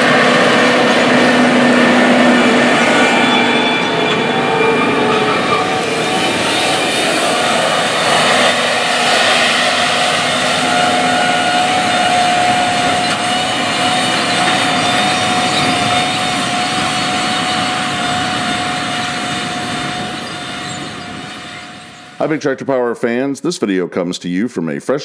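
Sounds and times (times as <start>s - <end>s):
constant high whine: 0.0s - 22.4s
tractor engine drone: 0.0s - 22.5s.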